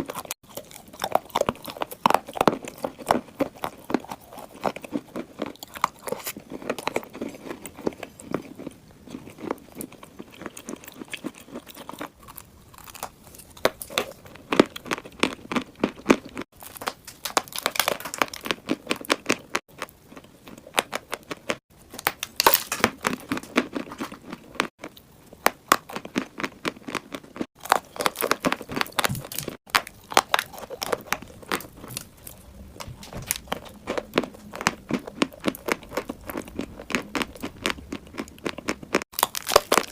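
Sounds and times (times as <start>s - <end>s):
chewing crunchy clay: 0.0s - 39.9s.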